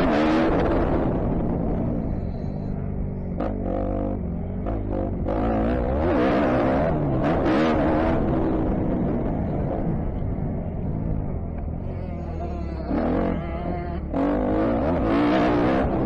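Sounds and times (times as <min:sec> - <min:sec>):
motocross bike engine revving: 0:00.0 - 0:10.8, 0:11.6 - 0:16.0.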